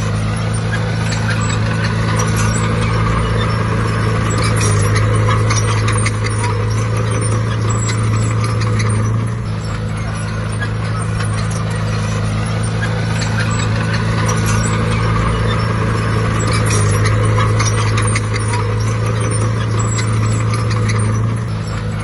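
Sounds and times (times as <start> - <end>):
diesel engine running: 0.0 - 22.0
metallic clanking: 0.0 - 22.0.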